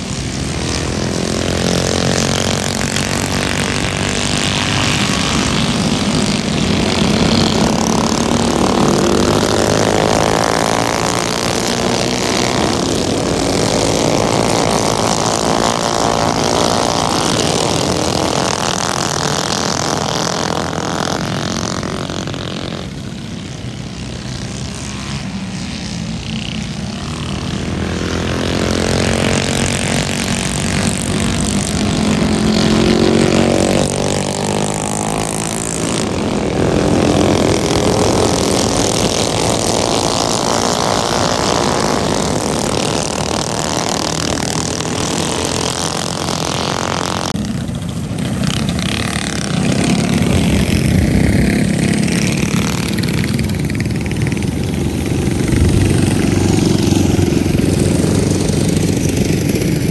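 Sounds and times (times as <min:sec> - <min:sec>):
mini bike engines racing: 0:00.0 - 0:59.9.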